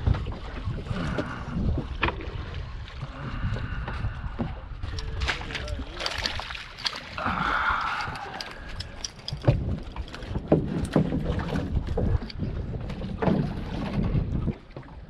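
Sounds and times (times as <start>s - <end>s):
small waves lapping against boat hull: 0.0s - 15.0s
wind rumble on microphone: 0.0s - 15.0s.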